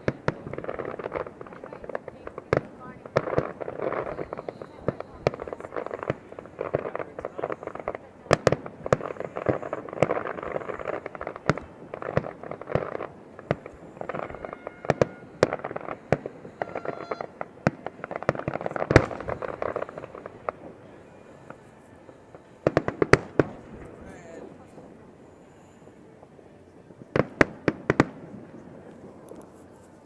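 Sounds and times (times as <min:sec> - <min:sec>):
fireworks bangs and booms: 0:00.0 - 0:29.3
fireworks crackling: 0:00.0 - 0:30.0.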